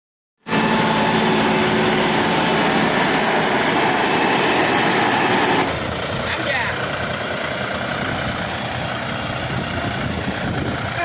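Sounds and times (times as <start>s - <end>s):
tractor diesel engine running: 0.4s - 11.0s.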